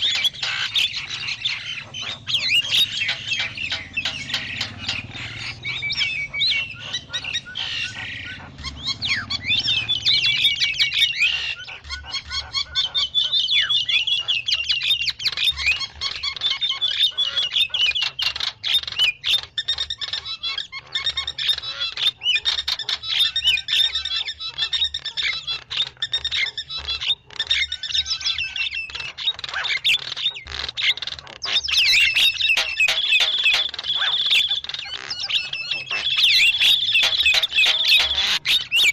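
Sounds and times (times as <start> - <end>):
starlings chattering: 0.0 - 38.9.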